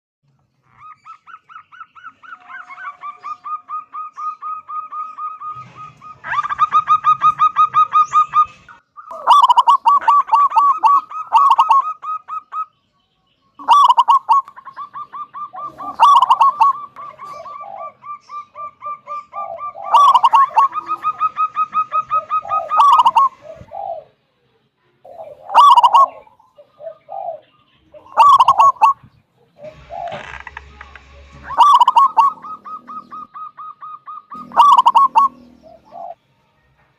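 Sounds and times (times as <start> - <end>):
dove cooing: 0.8 - 12.7, 13.6 - 24.2, 25.1 - 30.7, 31.3 - 36.2.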